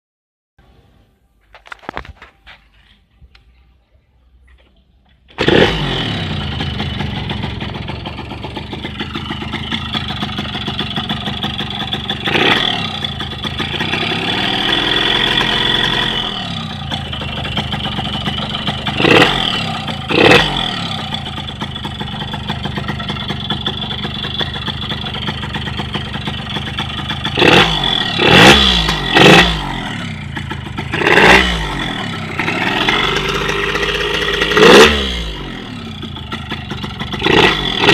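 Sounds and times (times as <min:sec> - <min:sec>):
two-stroke motorcycle engine revving: 0:05.4 - 0:37.9.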